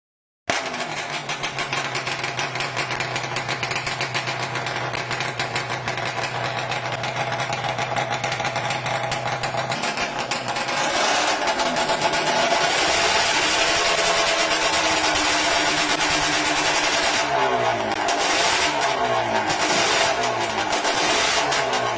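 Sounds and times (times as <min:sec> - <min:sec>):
motorcycle engine revving: 0:00.5 - 0:21.9.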